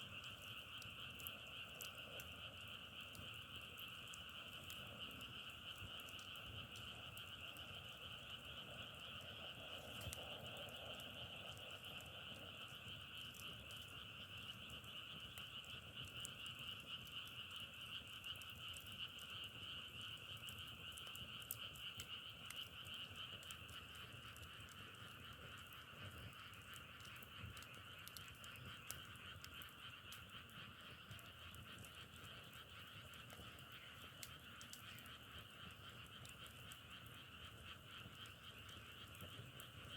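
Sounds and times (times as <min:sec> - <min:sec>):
faint ticks: 0:00.0 - 0:39.9
frogs trilling: 0:00.0 - 0:39.9.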